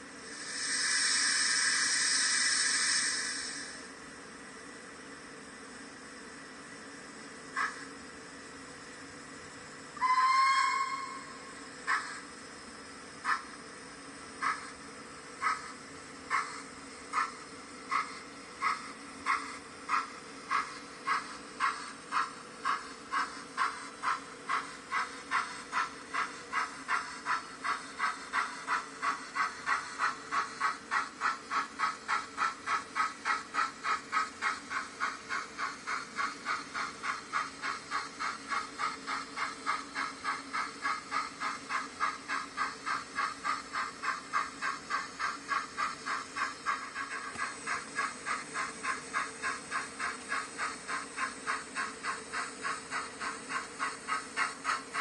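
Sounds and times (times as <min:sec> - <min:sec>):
steam locomotive chuffing: 0:00.0 - 0:04.6, 0:05.2 - 0:55.0.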